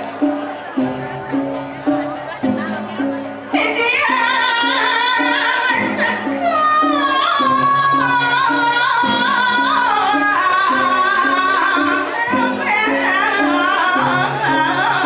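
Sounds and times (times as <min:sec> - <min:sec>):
person singing ornamented notes: 0:00.0 - 0:15.0.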